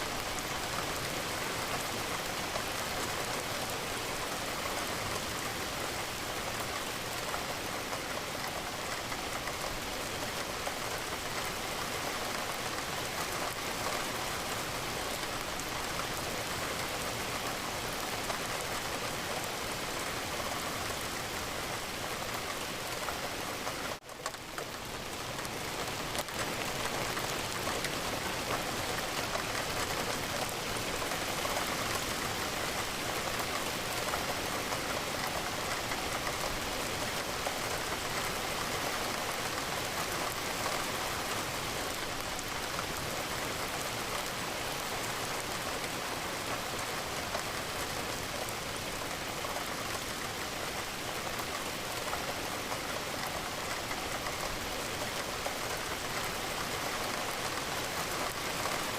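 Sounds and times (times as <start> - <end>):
rain falling against a window: 0.0 - 58.9.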